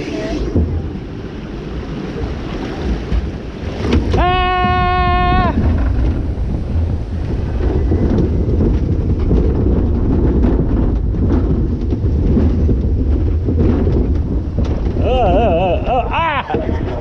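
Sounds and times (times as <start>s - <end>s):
roller coaster train rumble: 0.0s - 17.0s
wind rushing over microphone: 0.0s - 17.0s.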